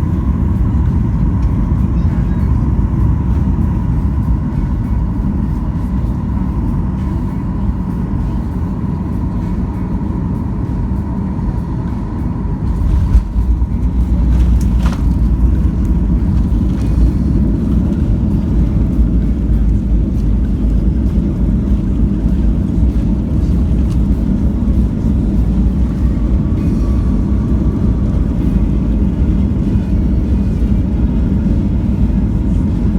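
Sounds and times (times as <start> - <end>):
jet engine rumble in cabin: 0.0 - 32.9.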